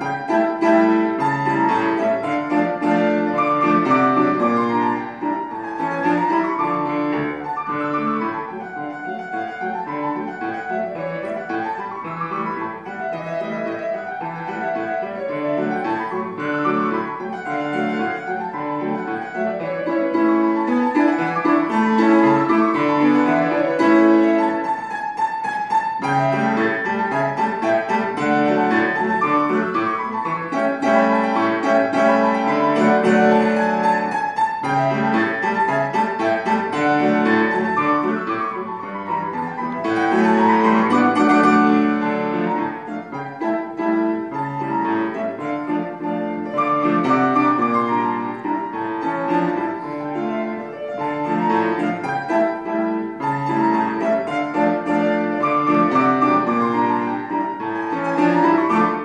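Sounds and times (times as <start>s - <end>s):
classical piano piece: 0.0s - 59.0s.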